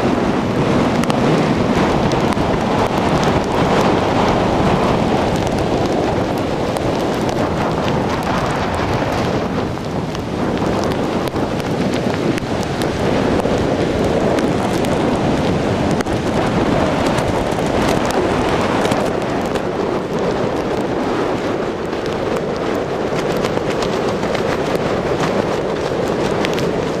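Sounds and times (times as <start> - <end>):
heavy surf breaking: 0.0 - 27.0
wind buffeting microphone: 0.0 - 27.0.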